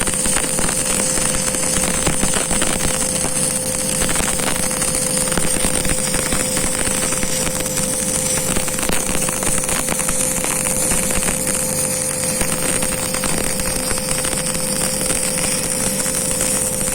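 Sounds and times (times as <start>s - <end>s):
welding arc crackling: 0.0s - 16.9s.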